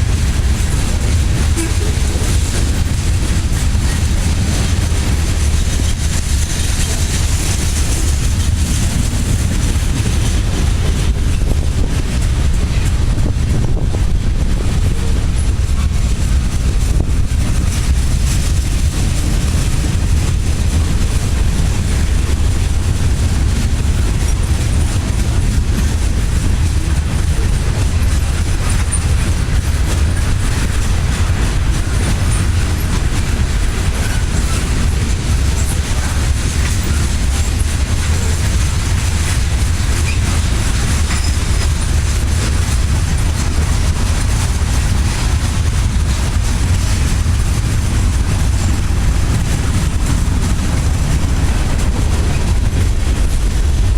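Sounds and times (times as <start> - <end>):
train rumbling past: 0.0 - 53.9.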